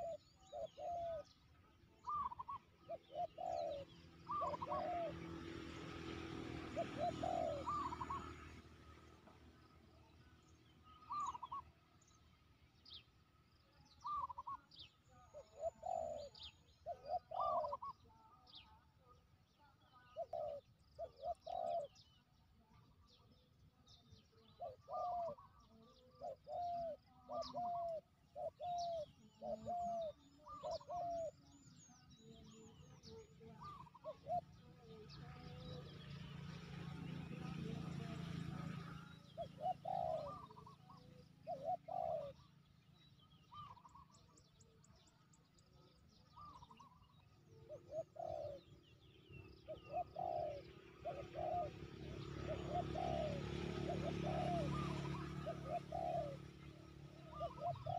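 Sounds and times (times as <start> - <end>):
dove cooing: 0.0 - 9.2, 10.8 - 11.8, 13.9 - 19.2, 19.8 - 22.3, 23.8 - 57.9
small birds chirping: 0.0 - 57.9.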